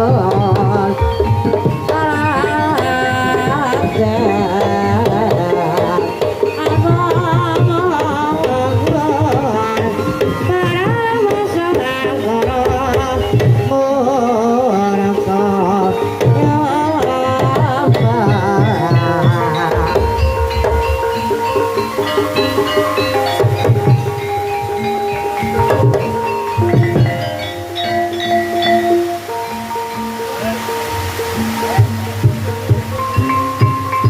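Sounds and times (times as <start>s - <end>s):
hand drums beating: 0.0s - 34.0s
metallophones playing melody: 0.0s - 34.0s.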